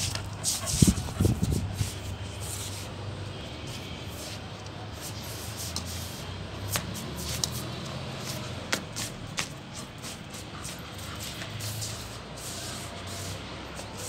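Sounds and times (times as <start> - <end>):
feet and paws scuffing on tiles: 0.0 - 14.0.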